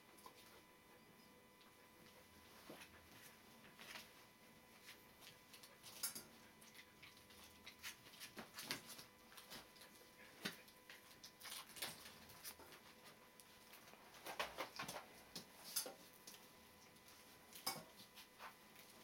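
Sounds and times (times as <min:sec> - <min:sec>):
puppies scuffling on bedding: 0:01.6 - 0:19.0.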